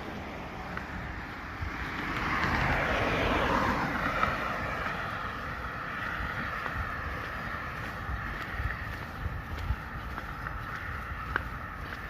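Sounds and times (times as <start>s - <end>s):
road vehicle passing by: 0.0s - 12.0s
steady traffic noise: 0.0s - 12.0s.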